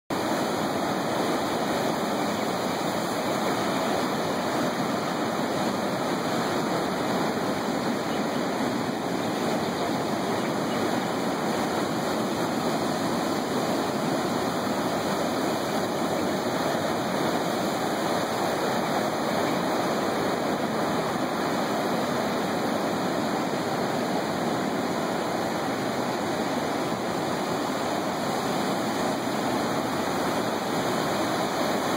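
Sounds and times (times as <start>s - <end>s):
heavy ocean surf: 0.1s - 31.9s.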